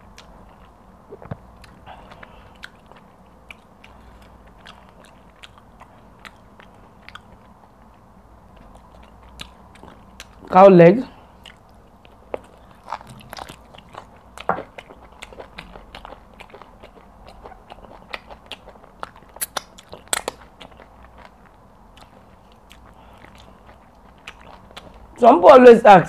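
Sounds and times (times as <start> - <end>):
person chewing meat: 0.0 - 25.2.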